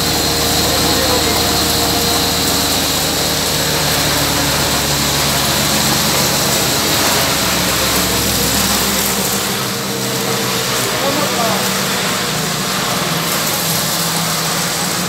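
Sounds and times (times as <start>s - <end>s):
belt-driven machine running: 0.0s - 15.0s.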